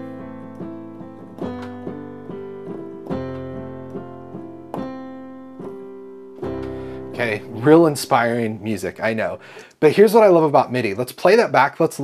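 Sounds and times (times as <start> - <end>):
piano chords: 0.0 - 9.7.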